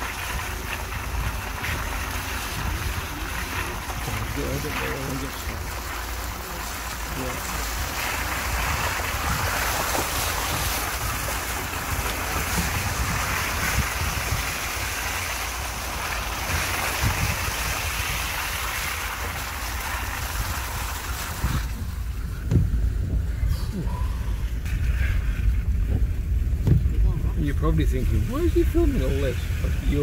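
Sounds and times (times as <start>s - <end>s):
wind buffeting microphone: 0.0s - 5.9s, 7.7s - 30.0s
low vehicle rumble: 0.0s - 30.0s
tyres over wet leaves and mud: 0.0s - 30.0s
tyres splashing through puddle: 0.0s - 30.0s.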